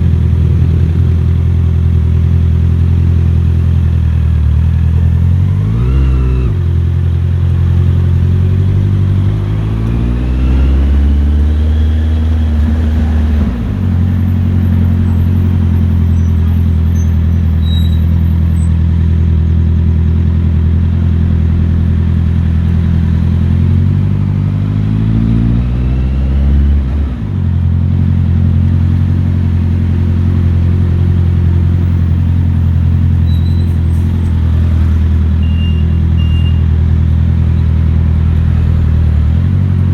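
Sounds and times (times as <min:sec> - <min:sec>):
motorcycle engine revving: 0:00.0 - 0:18.5, 0:20.9 - 0:39.9.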